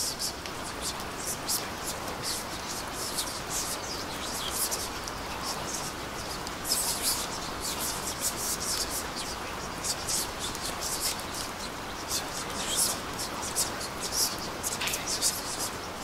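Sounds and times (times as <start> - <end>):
rain hiss: 0.0 - 16.0
raindrops ticking: 0.0 - 16.0.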